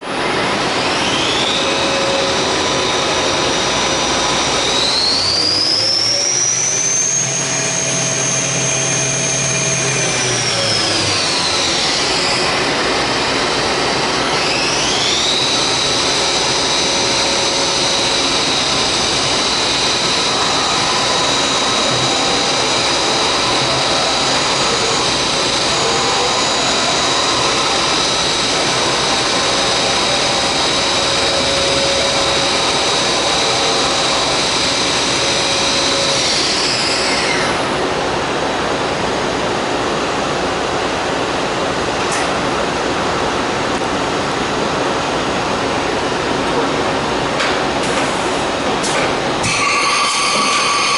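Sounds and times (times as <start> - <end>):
machining spindle whine: 0.0 - 50.9.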